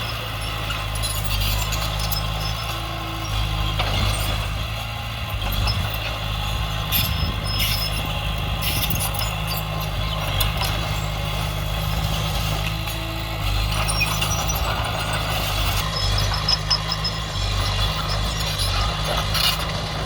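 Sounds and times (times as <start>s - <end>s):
diesel earthmoving machinery droning: 0.0s - 20.0s.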